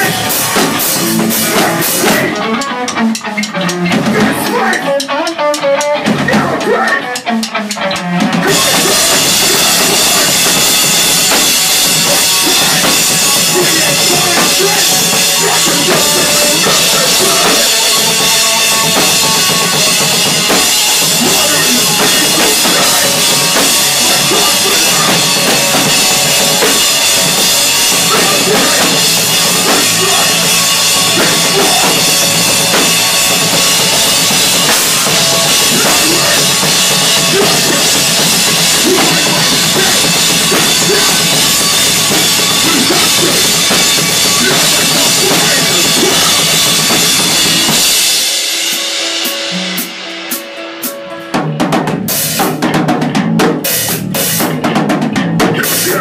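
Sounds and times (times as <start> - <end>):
hardcore band playing loud: 0.0 - 56.0
pounding drum kit: 0.0 - 56.0.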